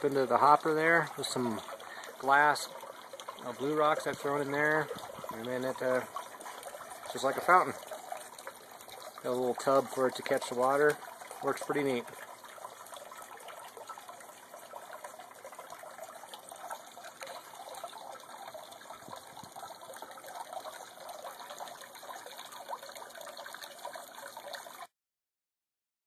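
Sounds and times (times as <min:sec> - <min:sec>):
water trickling and splashing: 0:00.0 - 0:24.9.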